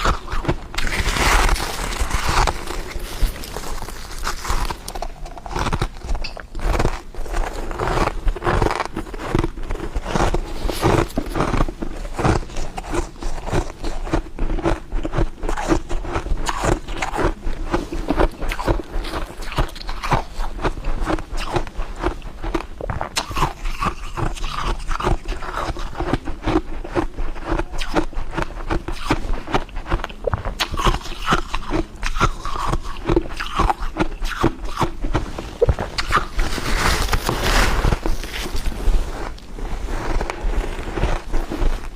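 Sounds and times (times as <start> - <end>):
chewing crunchy ice: 0.0 - 41.9.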